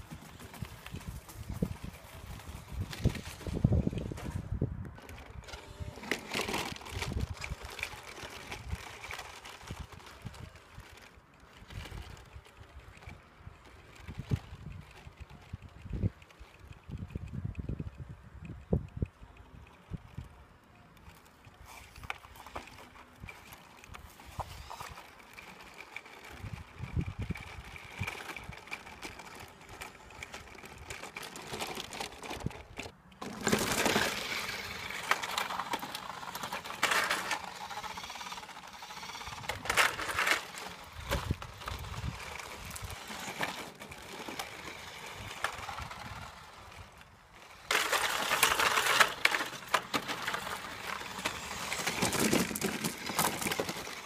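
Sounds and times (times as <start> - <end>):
toy truck electric motor whining: 0.0 - 18.1, 20.9 - 54.0
plastic toy body and wheels rattling: 0.0 - 54.0.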